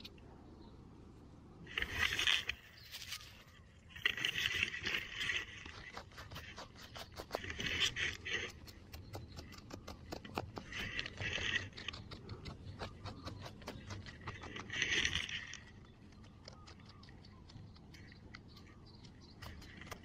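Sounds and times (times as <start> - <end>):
fingers scraping through dirt: 1.6 - 20.0.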